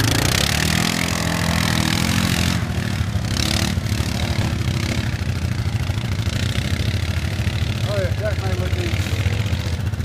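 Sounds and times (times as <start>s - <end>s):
atv engine idling: 0.0s - 10.0s
atv engine pulling away: 0.0s - 10.0s.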